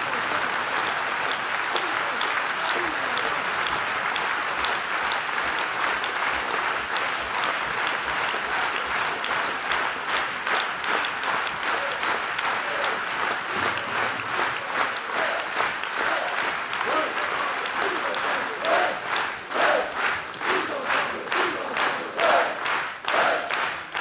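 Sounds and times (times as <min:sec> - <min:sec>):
large crowd applauding: 0:00.0 - 0:24.0.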